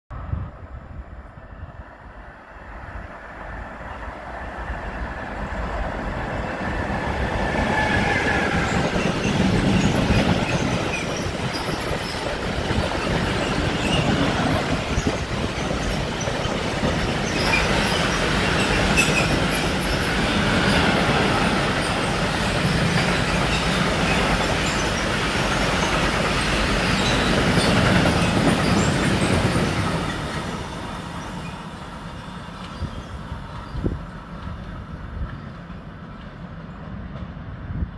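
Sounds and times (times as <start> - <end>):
freight train wheels rumbling: 1.4 - 37.9.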